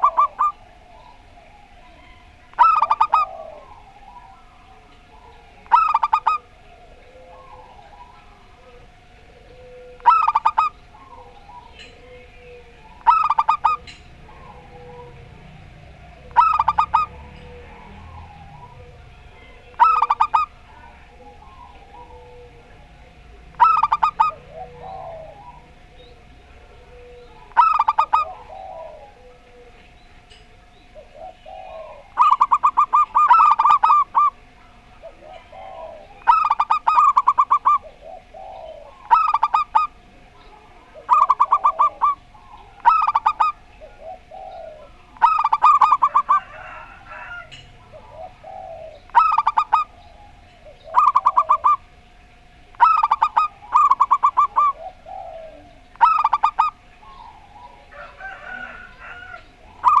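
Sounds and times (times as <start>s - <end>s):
doves cooing: 0.0s - 60.0s
faint steady tone: 0.0s - 60.0s.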